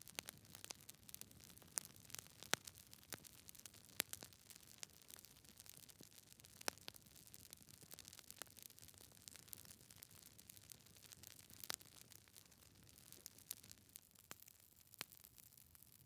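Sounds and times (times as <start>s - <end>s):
wood fire crackling: 0.0s - 15.8s.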